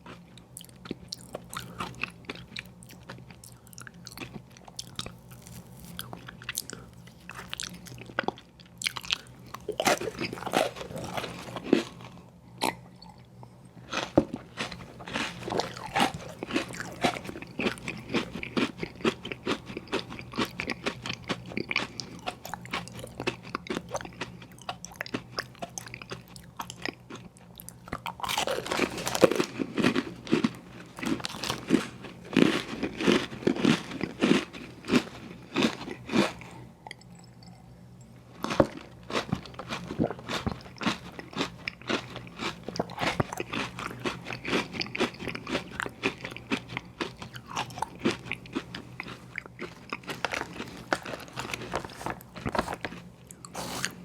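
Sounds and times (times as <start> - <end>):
crunchy bites and chewing: 0.0 - 13.3, 13.9 - 36.6, 38.4 - 54.0.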